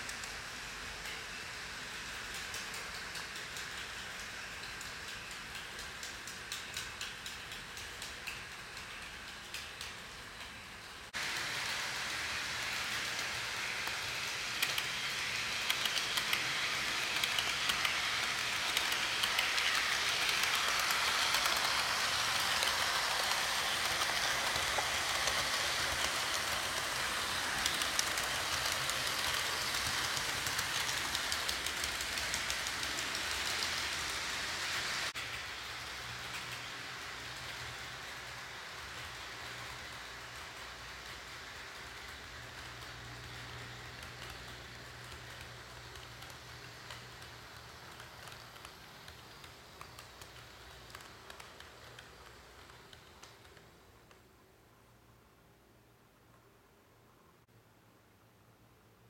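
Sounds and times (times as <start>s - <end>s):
model train motor whirring: 0.0s - 54.2s
wheels clicking over rail joints: 0.0s - 54.3s.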